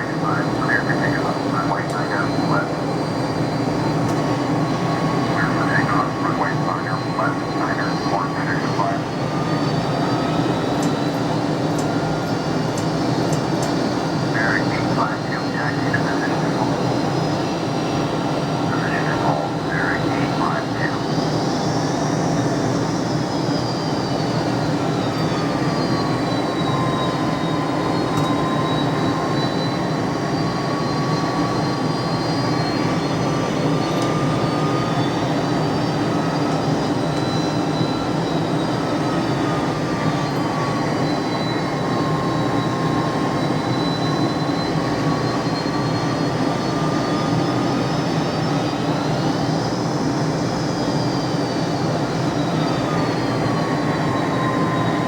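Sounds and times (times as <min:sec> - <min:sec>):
jet engines running with whine: 0:00.0 - 0:55.0.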